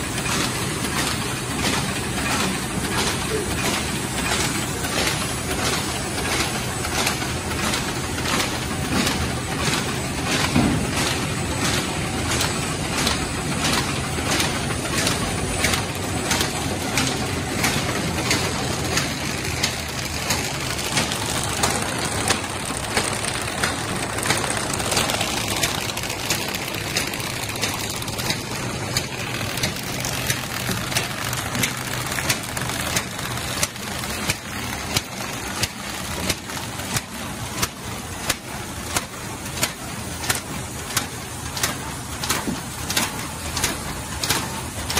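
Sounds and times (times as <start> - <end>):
bag making machine running: 0.0 - 44.9
regular mechanical clack: 0.0 - 44.9.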